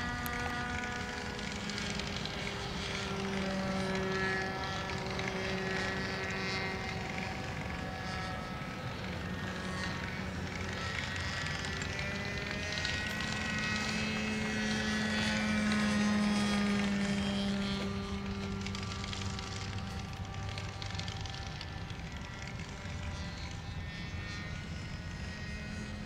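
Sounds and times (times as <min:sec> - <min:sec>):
model airplane engine droning: 0:00.0 - 0:26.0.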